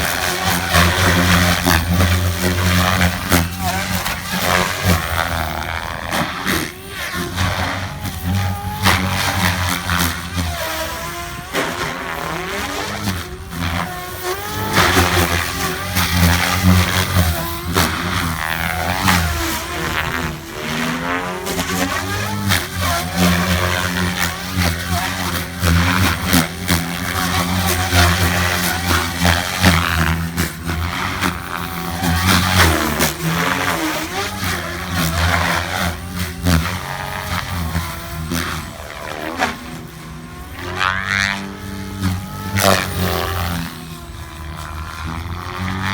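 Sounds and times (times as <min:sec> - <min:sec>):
low rotor hum: 0:00.0 - 0:45.9
rc helicopter motor whine: 0:00.0 - 0:45.9.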